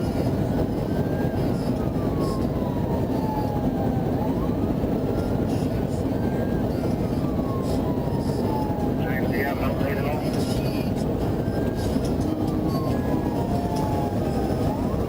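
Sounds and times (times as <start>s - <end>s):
police siren wailing: 0.0s - 15.0s
road and engine rumble: 0.0s - 15.0s.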